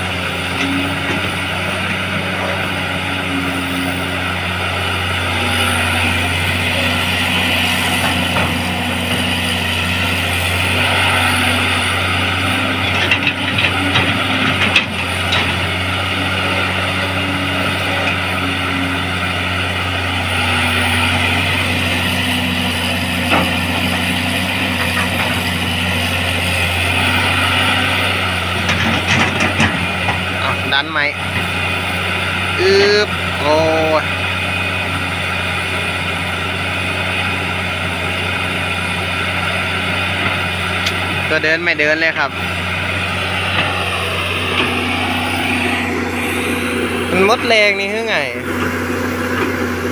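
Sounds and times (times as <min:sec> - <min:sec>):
excavator diesel engine running: 0:00.0 - 0:49.9
hydraulics whining: 0:00.0 - 0:49.9.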